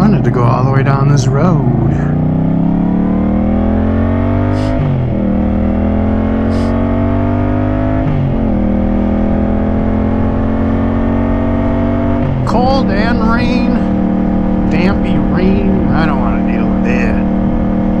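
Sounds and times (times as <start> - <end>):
motorcycle engine revving through gears: 0.0 - 18.0.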